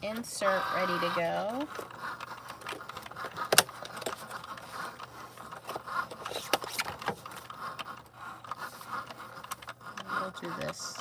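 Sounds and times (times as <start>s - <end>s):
card clicks and scrapes: 1.5s - 10.8s.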